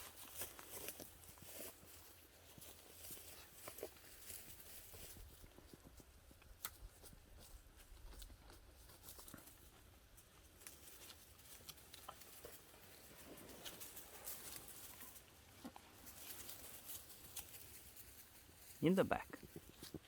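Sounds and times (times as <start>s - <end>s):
rustles and crackles in leaf litter: 0.0s - 5.4s, 8.6s - 20.0s.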